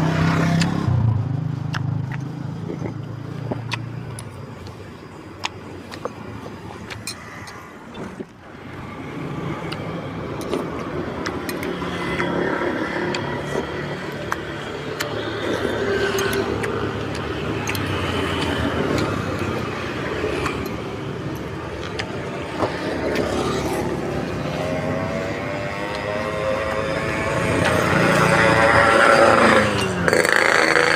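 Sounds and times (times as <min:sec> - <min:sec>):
vehicle engines passing: 0:00.0 - 0:30.9.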